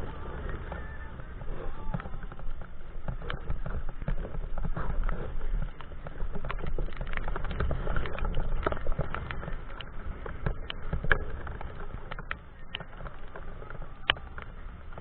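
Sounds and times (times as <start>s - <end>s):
raindrops tapping on microphone: 0.0s - 15.0s
steady low rumble: 0.0s - 15.0s.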